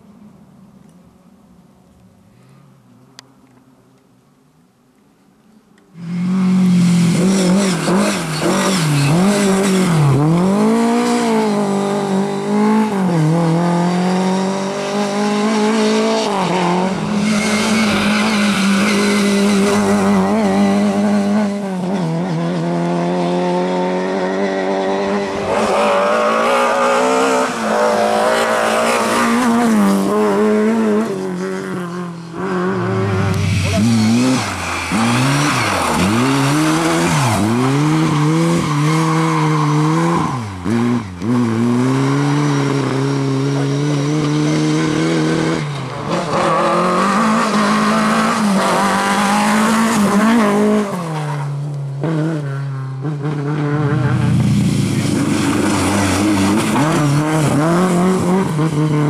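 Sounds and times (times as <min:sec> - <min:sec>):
rally car engine revving: 0:06.0 - 0:59.0.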